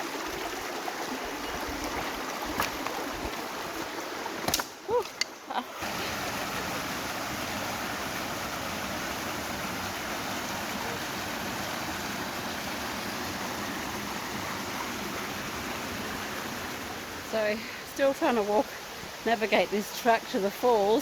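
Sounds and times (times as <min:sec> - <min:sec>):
creek water over rocks: 0:00.0 - 0:21.0.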